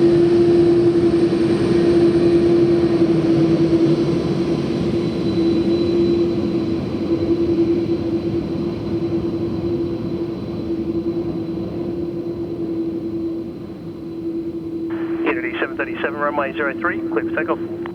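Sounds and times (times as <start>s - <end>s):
aircraft engines rumbling: 0.0s - 17.9s.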